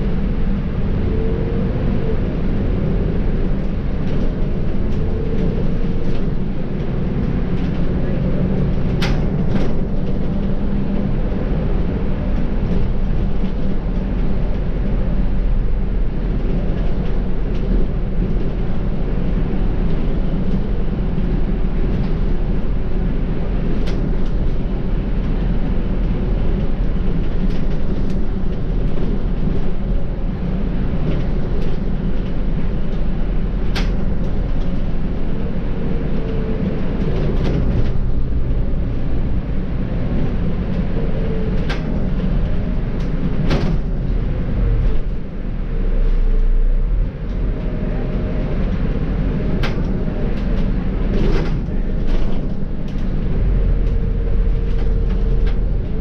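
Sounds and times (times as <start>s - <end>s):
bus diesel engine rumbling: 0.0s - 56.0s.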